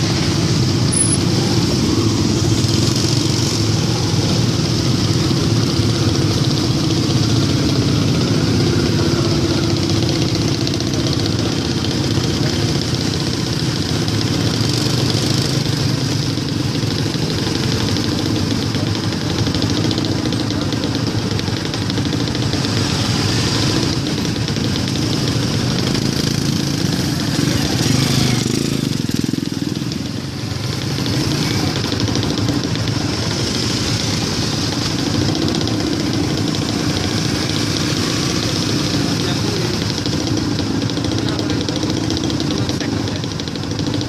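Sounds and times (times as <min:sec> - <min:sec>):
motorcycle engines idling: 0:00.0 - 0:44.0.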